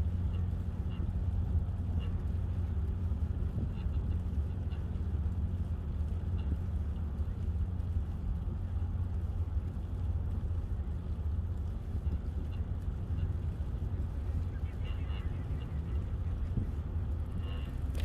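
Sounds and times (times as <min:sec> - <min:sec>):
bike riding rumble: 0:00.0 - 0:18.0
wind on microphone: 0:00.0 - 0:18.0.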